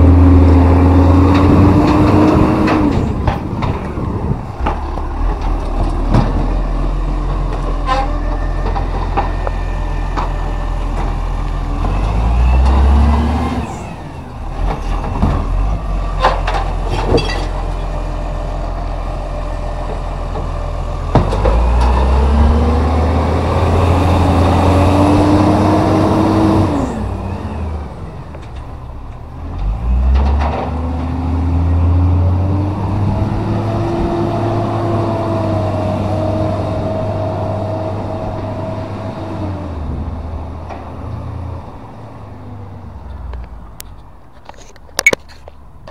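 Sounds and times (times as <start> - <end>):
diesel engine revving: 0.0 - 43.8.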